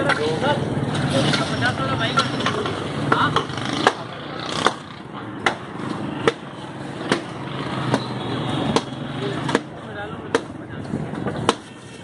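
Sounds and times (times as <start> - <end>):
street background: 0.0 - 12.0.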